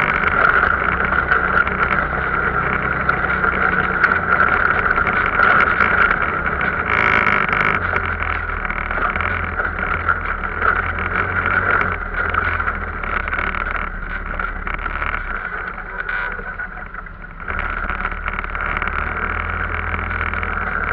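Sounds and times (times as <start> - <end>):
motion noise: 0.0 - 20.9
off-road vehicle engine droning: 0.0 - 20.9.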